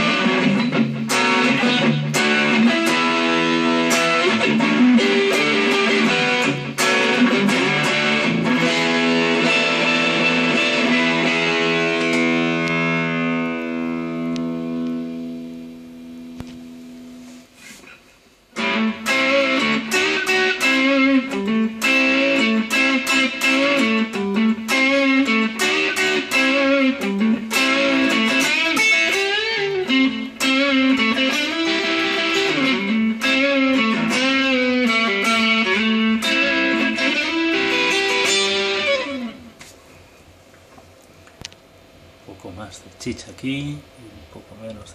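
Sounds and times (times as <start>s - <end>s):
electric guitar lead melody: 0.0s - 17.4s, 18.5s - 39.7s
overdriven electric guitar chord: 0.0s - 17.4s, 18.6s - 39.6s.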